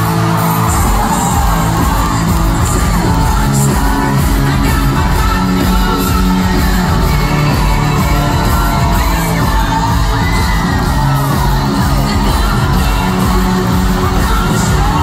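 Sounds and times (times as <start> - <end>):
crowd shouting and cheering: 0.0 - 15.0
person singing: 0.0 - 15.0
pop music over sound system: 0.0 - 15.0.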